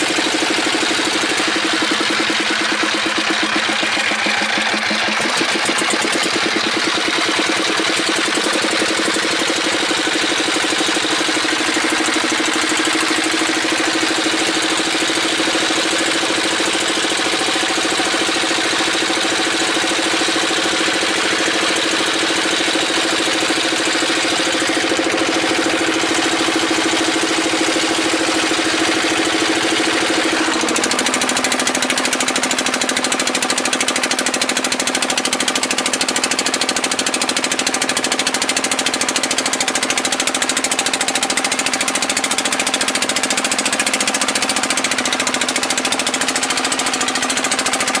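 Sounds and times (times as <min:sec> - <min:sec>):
motor boat engine running: 0:00.0 - 0:48.0.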